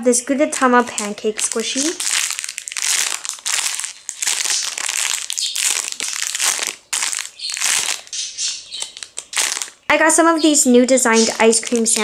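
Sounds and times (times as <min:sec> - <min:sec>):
plastic packaging crinkling: 0:00.6 - 0:10.0, 0:11.0 - 0:12.0.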